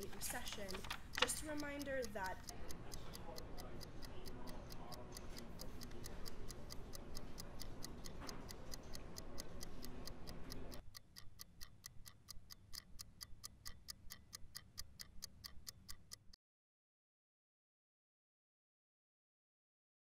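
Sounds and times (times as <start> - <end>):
fast clock ticking: 0.0 - 16.4.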